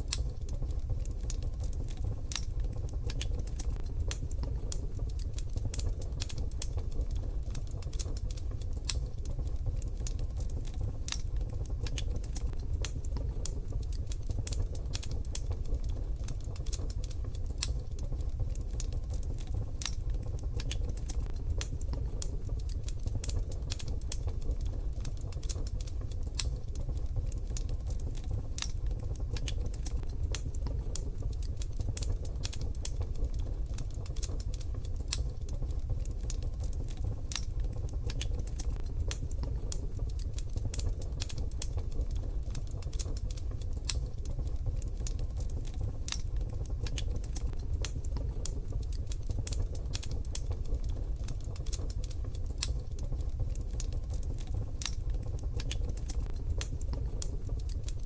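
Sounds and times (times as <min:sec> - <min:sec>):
low rumble of fire: 0:00.0 - 0:58.0
wood fire crackling in stove: 0:00.0 - 0:58.0.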